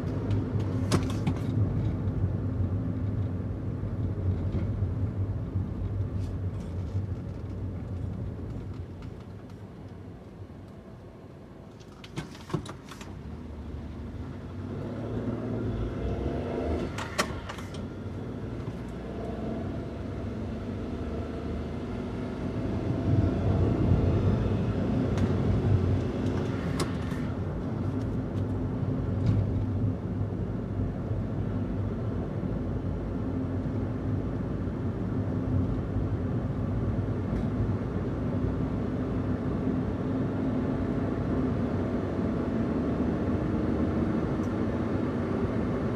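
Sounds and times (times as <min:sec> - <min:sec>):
van engine driving: 0:00.0 - 0:45.9.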